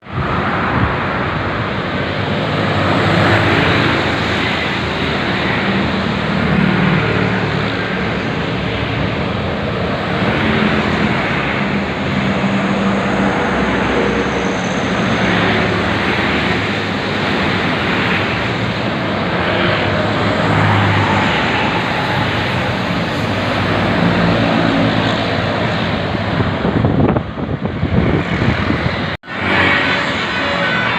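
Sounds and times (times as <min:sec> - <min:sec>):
road and wind noise: 0:00.0 - 0:30.9.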